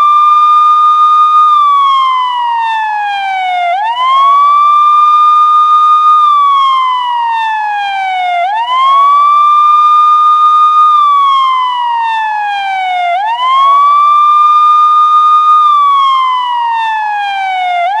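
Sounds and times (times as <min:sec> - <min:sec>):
police siren wailing: 0:00.0 - 0:18.0.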